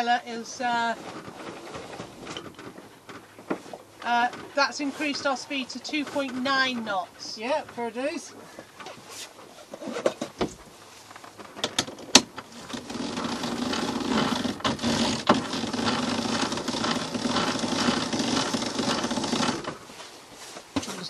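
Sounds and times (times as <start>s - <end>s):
winch clunks: 0.0s - 21.0s
winch ratcheting: 0.9s - 20.0s.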